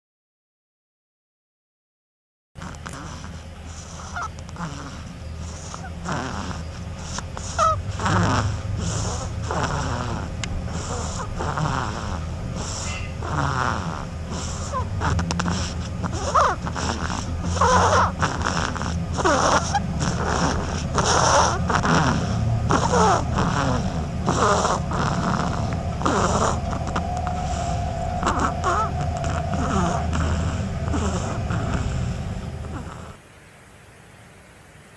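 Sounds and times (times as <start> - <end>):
duckling snoring peeps: 2.6 - 33.2
low hum: 2.7 - 34.9.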